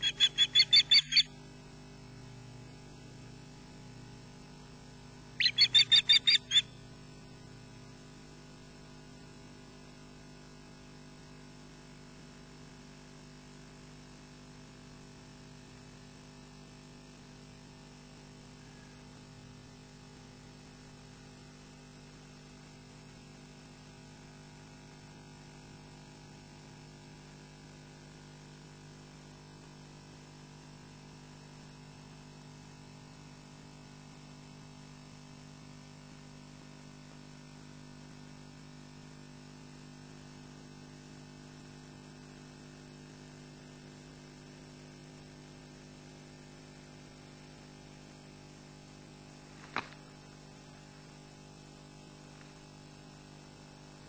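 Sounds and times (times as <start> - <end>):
electrical hum with high whine: 0.0 - 54.0.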